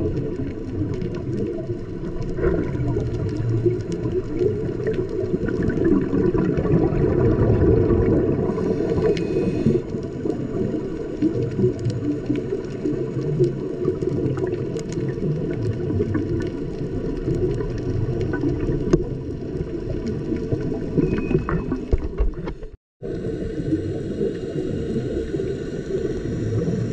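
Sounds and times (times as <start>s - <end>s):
muffled underwater rumble: 0.0s - 26.9s.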